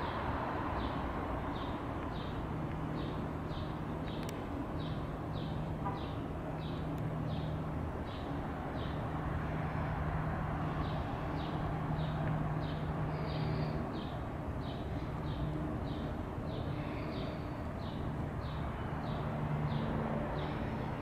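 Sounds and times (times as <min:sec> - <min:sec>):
bird chirping: 0:01.6 - 0:09.1, 0:10.7 - 0:21.0.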